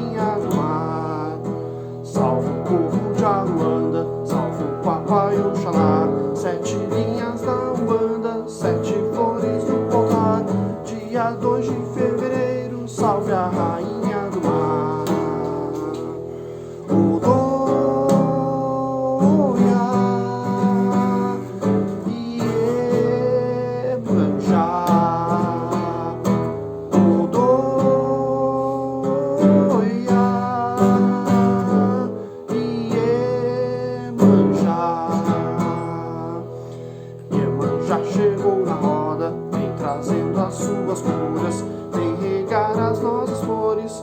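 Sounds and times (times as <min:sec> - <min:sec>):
acoustic guitar strumming: 0:00.0 - 0:44.0.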